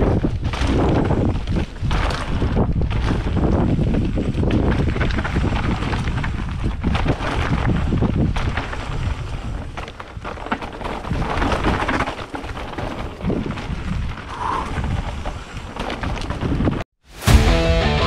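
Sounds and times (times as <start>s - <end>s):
bike frame knocks and rattles: 0.0s - 14.2s, 14.8s - 16.8s
bike rumble and buffeting: 0.0s - 17.4s.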